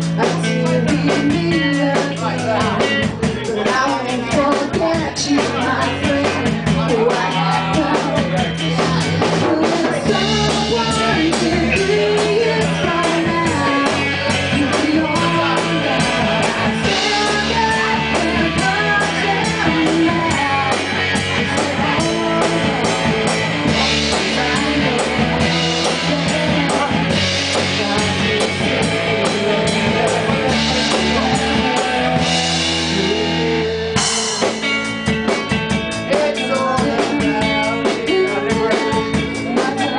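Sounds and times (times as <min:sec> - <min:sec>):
woman singing: 0:00.0 - 0:34.9, 0:35.7 - 0:39.9
drum kit: 0:00.0 - 0:39.9
electric guitars: 0:00.0 - 0:39.9.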